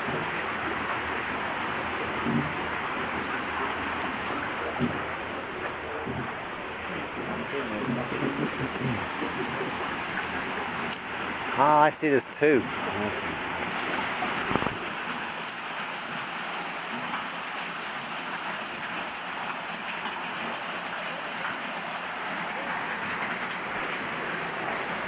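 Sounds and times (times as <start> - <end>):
water splashing on wooden wheel: 0.0 - 12.0, 12.6 - 25.0.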